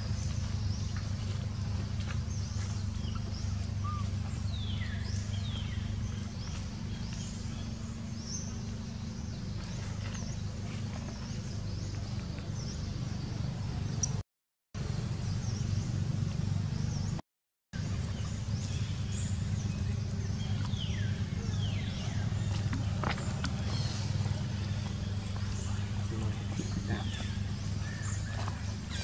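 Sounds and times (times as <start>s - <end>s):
birds chirping: 0.0s - 14.2s, 14.8s - 17.2s, 17.8s - 29.0s
steady low rumble: 0.0s - 14.2s, 17.8s - 29.0s.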